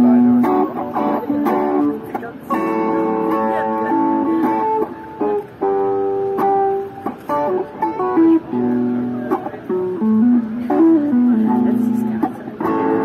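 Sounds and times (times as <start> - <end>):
plucked guitar: 0.0 - 13.0.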